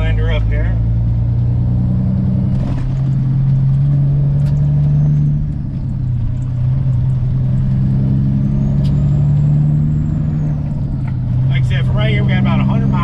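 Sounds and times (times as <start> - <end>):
diesel truck engine pulling away: 0.0 - 13.0.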